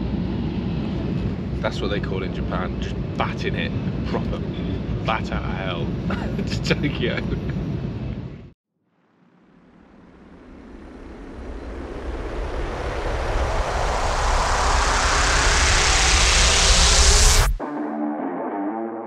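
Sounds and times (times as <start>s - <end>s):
rushing noise riser: 0.0s - 8.5s, 9.1s - 19.0s.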